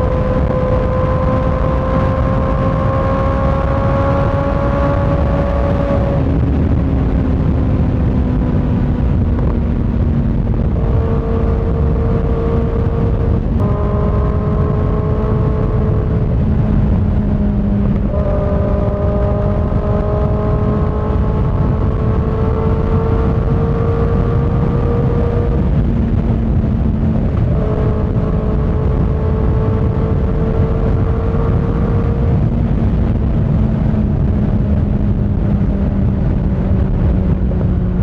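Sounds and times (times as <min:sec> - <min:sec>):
motorcycle engine cruising: 0:00.0 - 0:38.0
wind noise: 0:00.0 - 0:38.0.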